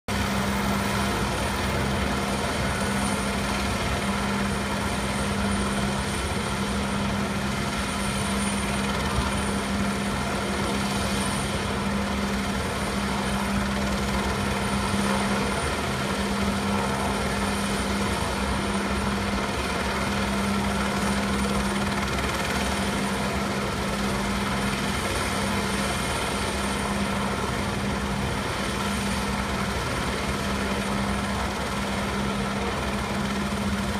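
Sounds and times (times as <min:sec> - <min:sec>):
helicopter drone: 0:00.1 - 0:33.9.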